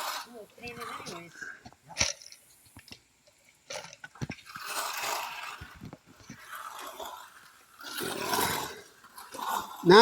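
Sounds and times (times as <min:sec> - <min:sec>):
trowel scraping wet concrete: 0:00.0 - 0:02.2, 0:03.9 - 0:10.0.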